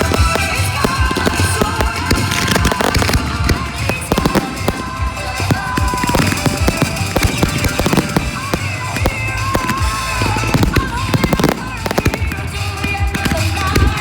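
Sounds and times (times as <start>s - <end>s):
fireworks banging and crackling: 0.0s - 14.0s
music playing: 0.0s - 14.0s.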